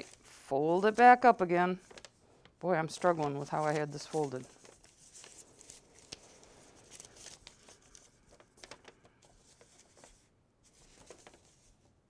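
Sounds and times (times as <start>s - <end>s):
paper rustling and crinkling: 0.0s - 11.9s.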